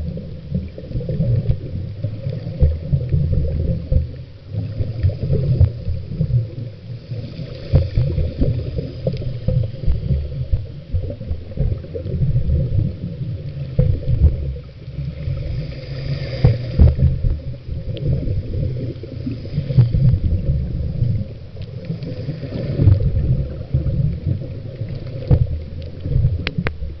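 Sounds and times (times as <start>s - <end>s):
bubbling hiss: 0.0s - 27.0s
muffled underwater rumble: 0.0s - 27.0s.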